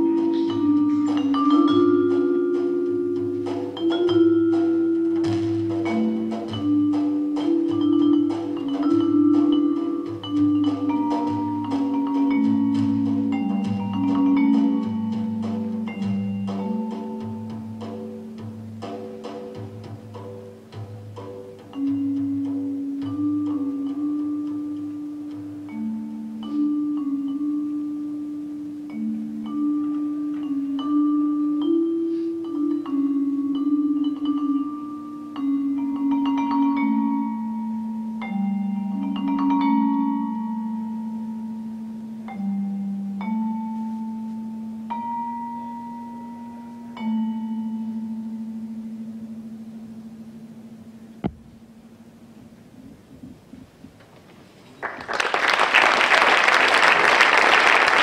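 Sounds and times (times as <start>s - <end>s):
vibraphone notes ringing: 0.0s - 53.6s.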